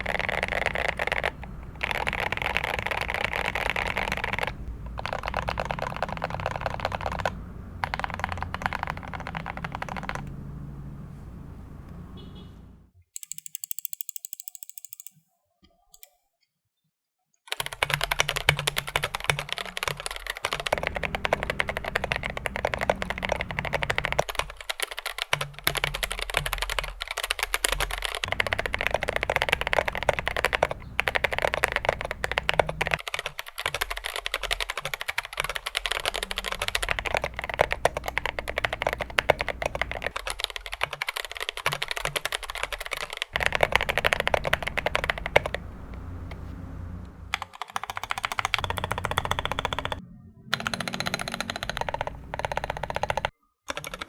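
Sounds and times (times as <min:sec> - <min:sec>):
mechanical keyboard typing: 0:00.0 - 0:10.4, 0:13.2 - 0:15.2, 0:17.5 - 0:46.4, 0:47.3 - 0:54.0.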